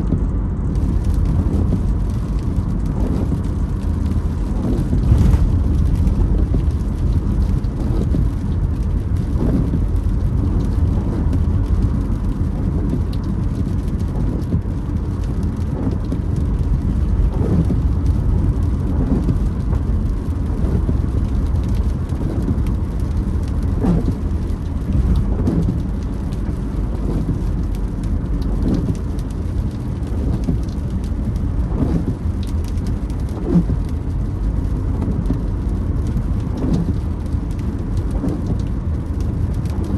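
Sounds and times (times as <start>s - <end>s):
rain on a car: 0.0s - 39.9s
road rumble: 0.0s - 39.9s
windshield wipers creaking: 0.0s - 39.9s.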